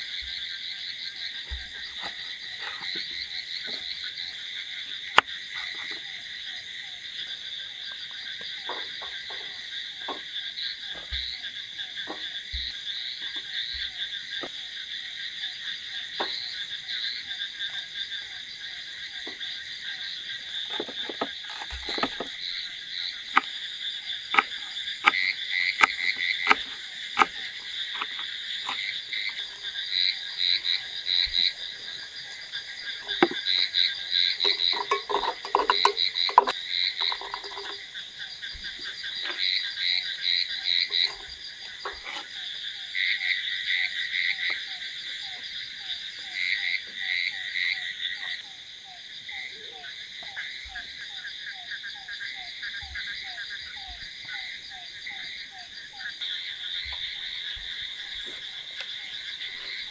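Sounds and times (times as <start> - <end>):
frogs calling: 0.0 - 59.9.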